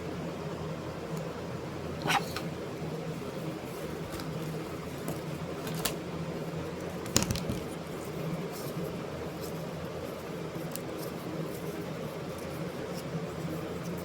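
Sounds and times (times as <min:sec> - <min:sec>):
room hum and hiss: 0:00.0 - 0:14.0.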